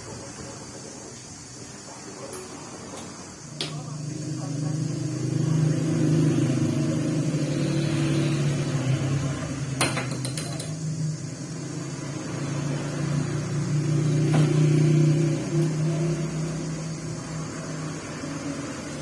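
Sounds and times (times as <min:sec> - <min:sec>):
electric fan motor humming: 0:00.0 - 0:19.0.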